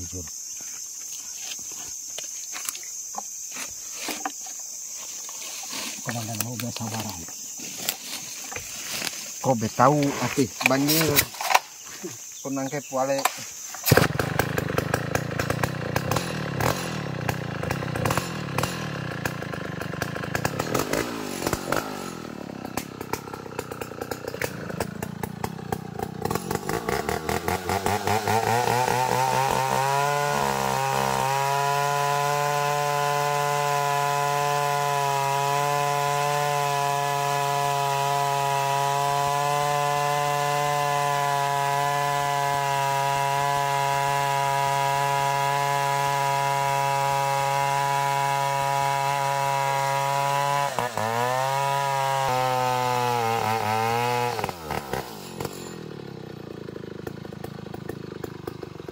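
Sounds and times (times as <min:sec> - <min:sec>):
sawmill cutting log: 0:02.5 - 0:11.6, 0:12.4 - 0:58.9.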